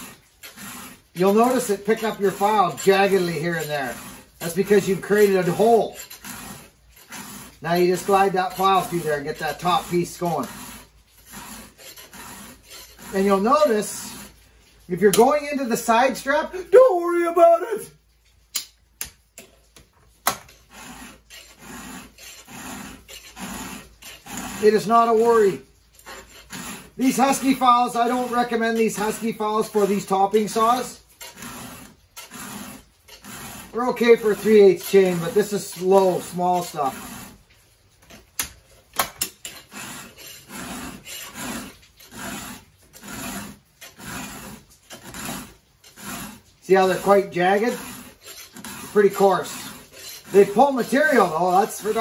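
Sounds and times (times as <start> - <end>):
file rasping on chain: 0.0 - 16.7, 19.3 - 52.0.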